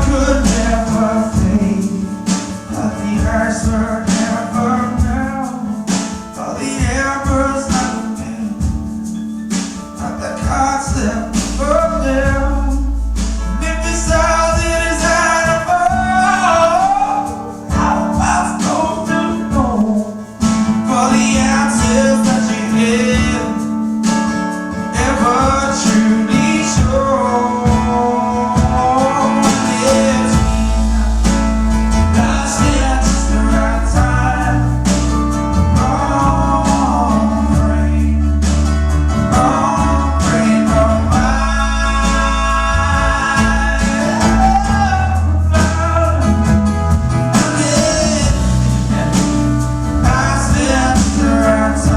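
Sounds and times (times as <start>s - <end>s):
man singing: 0.0s - 9.2s, 9.9s - 51.9s
guitar accompaniment: 0.0s - 51.9s.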